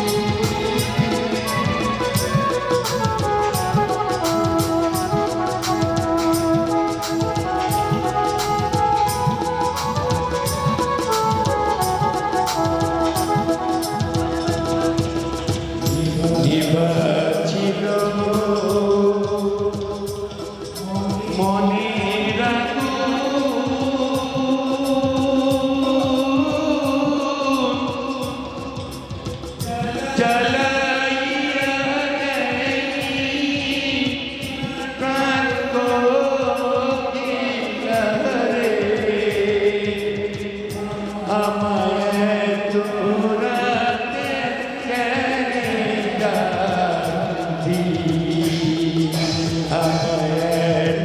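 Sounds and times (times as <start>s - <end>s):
live band accompaniment: 0.0s - 51.0s
man singing through loudspeakers: 0.0s - 51.0s.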